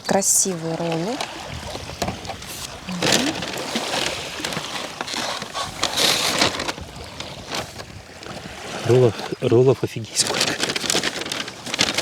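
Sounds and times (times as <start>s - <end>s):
plastic packaging crinkling: 1.1s - 9.4s, 10.1s - 12.0s.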